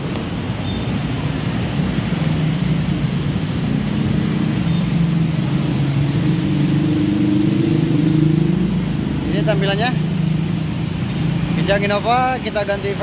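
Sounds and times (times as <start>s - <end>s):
car engines passing: 0.0s - 13.0s
motorcycle engines passing: 0.0s - 13.0s.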